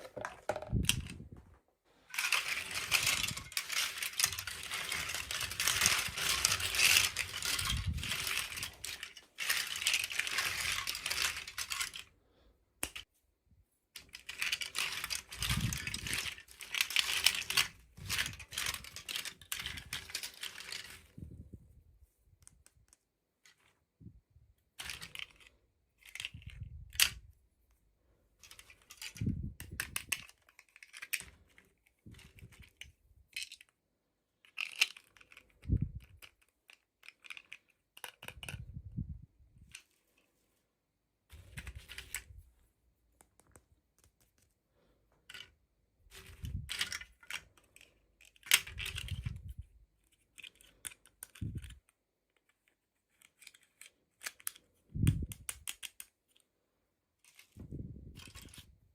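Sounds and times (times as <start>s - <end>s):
toy packaging clicking and rustling: 0.0s - 1.3s, 2.1s - 12.2s, 12.8s - 13.1s, 14.0s - 24.0s, 24.6s - 40.3s, 41.3s - 58.9s.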